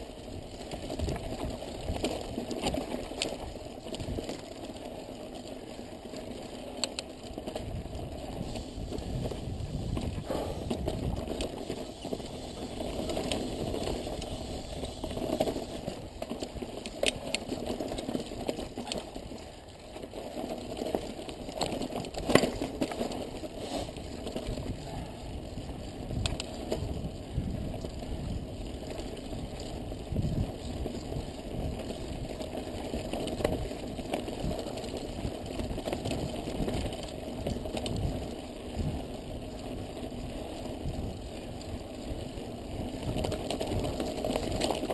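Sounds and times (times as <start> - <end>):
bike tyres rumbling over rock: 0.0 - 44.9.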